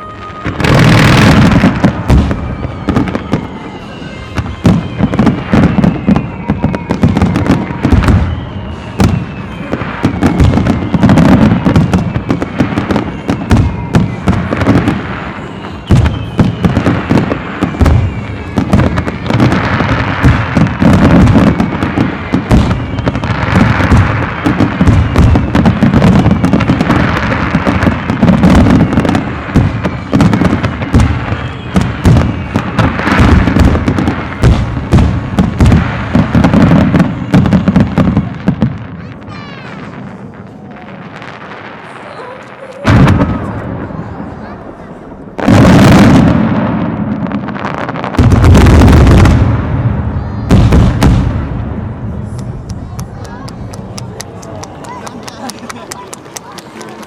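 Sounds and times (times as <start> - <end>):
fireworks bangs and booms: 0.0 - 57.0
fireworks crackling bursts: 0.0 - 57.0.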